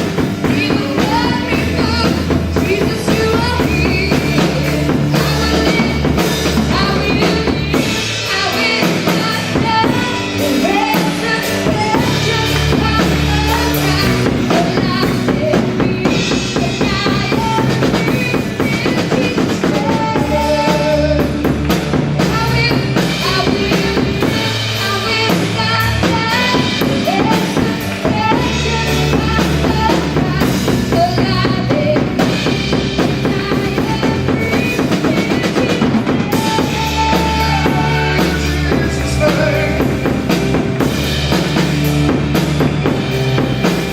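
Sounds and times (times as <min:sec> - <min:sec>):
bass guitar: 0:00.0 - 0:43.9
drum kit beat: 0:00.0 - 0:43.9
keyboard: 0:00.0 - 0:43.9.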